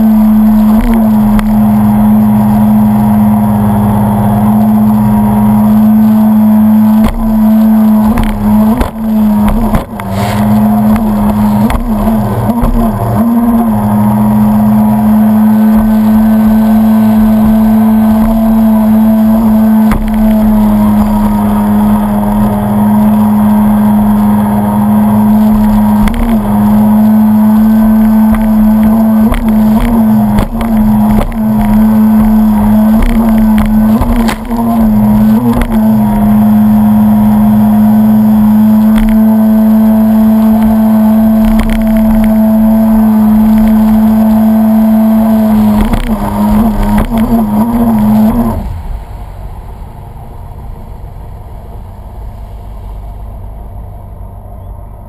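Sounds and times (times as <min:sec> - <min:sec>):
jet ski engine buzzing: 0:00.0 - 0:55.0.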